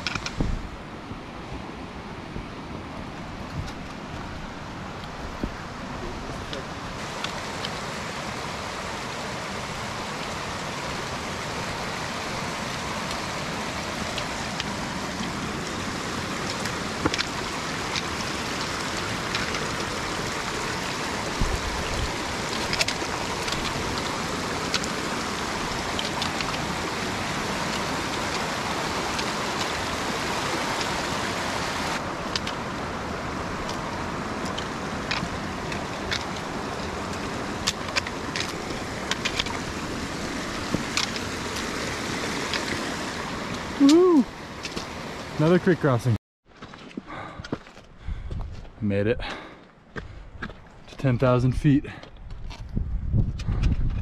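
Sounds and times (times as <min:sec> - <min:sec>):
creek water rushing: 0:00.0 - 0:46.2.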